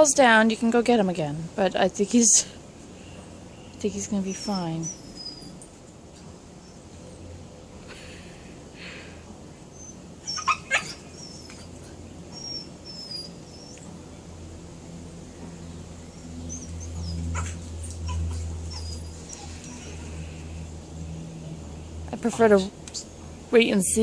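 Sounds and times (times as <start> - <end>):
small birds chirping: 1.6 - 8.2, 8.8 - 24.0.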